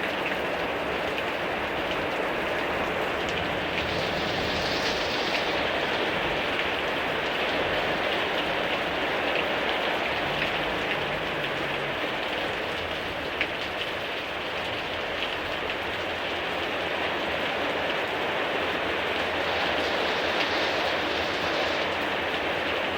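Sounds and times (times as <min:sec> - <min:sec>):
heavy rain pouring: 0:00.0 - 0:22.9
sharp raindrop impacts: 0:00.0 - 0:22.9.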